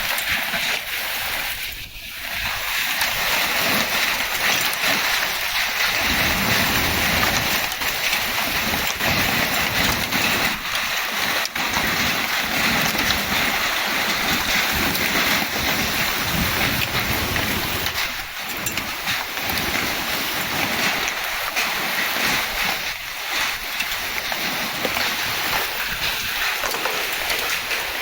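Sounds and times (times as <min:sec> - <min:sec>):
heavy rain hiss: 0:00.0 - 0:28.0
drops or hailstones ticking: 0:03.0 - 0:28.0.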